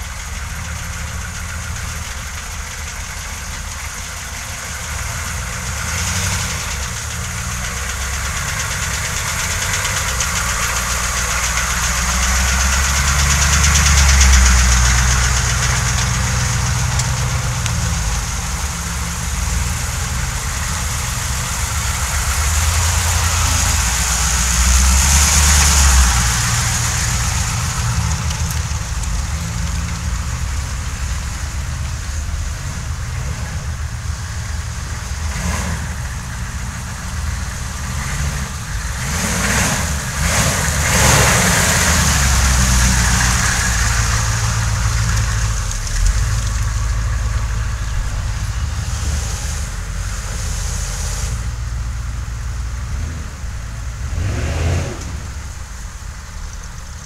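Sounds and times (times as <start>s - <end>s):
diesel engines rumbling: 0.0s - 57.0s.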